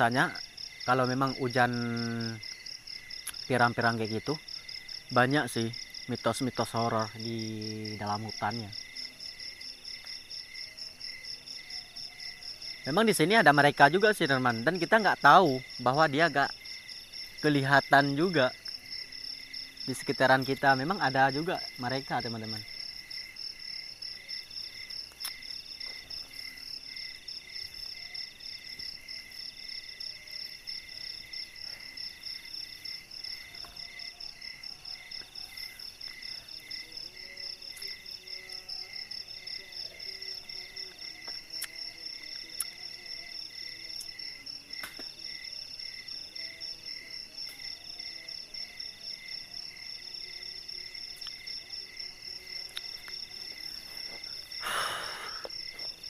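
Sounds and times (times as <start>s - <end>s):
insects trilling: 0.0s - 56.0s
pulsing insect chirp: 0.0s - 56.0s.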